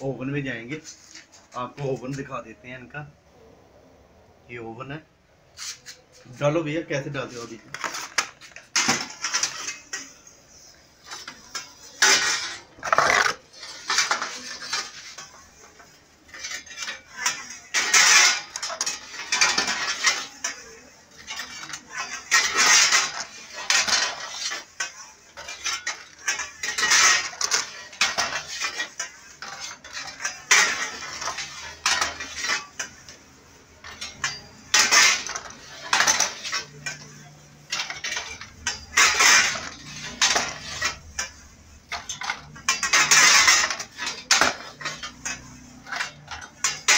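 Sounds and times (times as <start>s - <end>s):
metal baking trays scraping: 0.0s - 2.4s, 5.5s - 46.9s.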